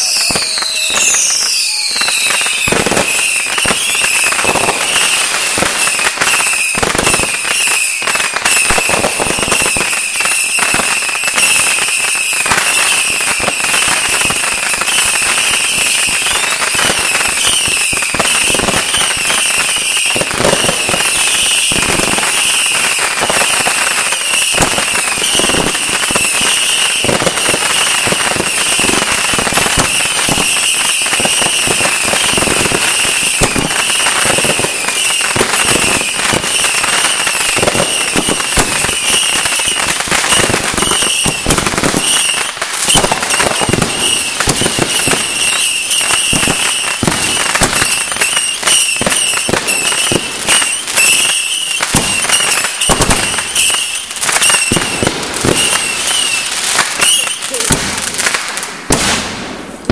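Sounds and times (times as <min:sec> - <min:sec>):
fireworks cracking and popping: 0:00.0 - 0:59.9
fireworks hiss: 0:00.0 - 0:59.9.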